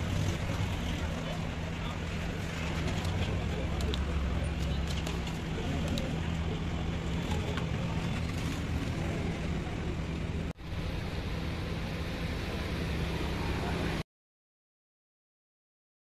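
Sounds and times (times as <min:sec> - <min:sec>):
low hum: 0:00.0 - 0:14.0
street noise: 0:00.0 - 0:14.0.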